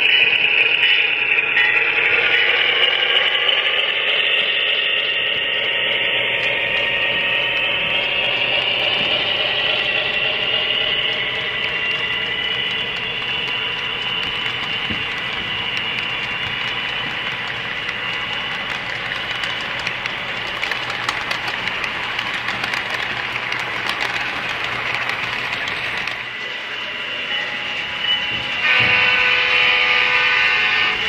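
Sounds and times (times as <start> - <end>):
model train wheels clicking: 0.0 - 26.6
steady high whine: 0.0 - 31.0.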